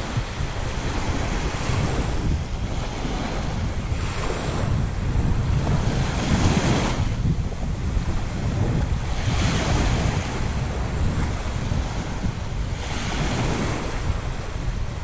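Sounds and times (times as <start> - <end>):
small waves lapping on sand: 0.0 - 15.0
wind buffeting microphone: 0.0 - 15.0.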